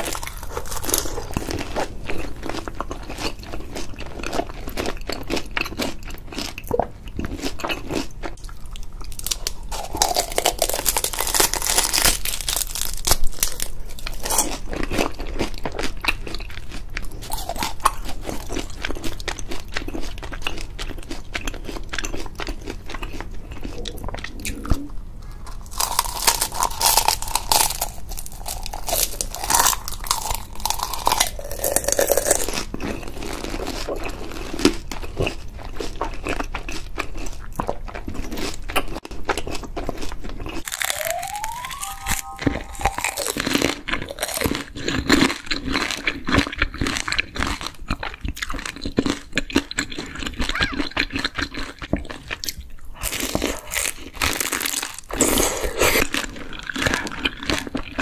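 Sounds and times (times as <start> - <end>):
crunching and chewing fried food: 0.0 - 58.0.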